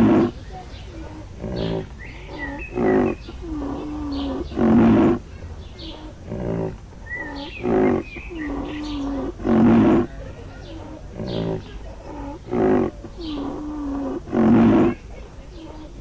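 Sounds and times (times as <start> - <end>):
large animal calling: 0.0 - 16.0.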